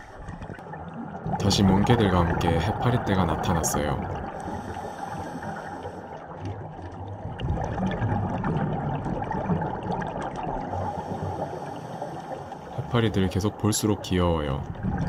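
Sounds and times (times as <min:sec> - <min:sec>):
muffled underwater water noise: 0:00.0 - 0:15.0.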